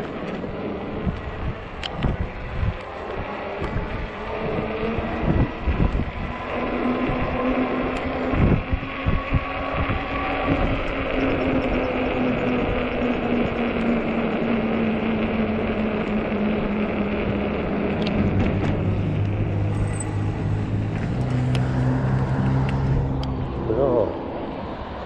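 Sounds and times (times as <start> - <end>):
electric hub motor humming: 0.0 - 25.0
wind and road noise: 0.0 - 25.0
wind buffeting microphone: 0.0 - 25.0.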